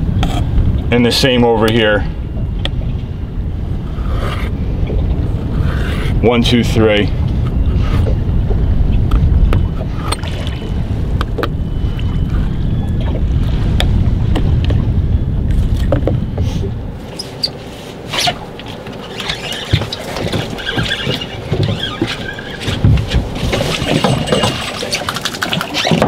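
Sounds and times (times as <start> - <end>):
wind and water rumble: 0.0 - 26.0.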